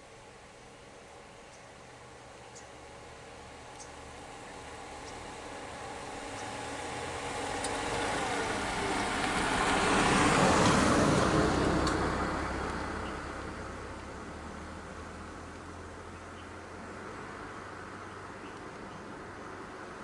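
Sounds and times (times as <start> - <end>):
vehicle driving past: 2.8 - 20.0.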